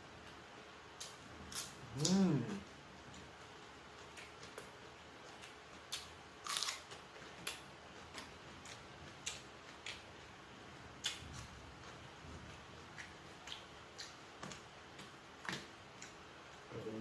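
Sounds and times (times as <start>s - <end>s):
person chewing and crunching food: 0.2s - 17.0s.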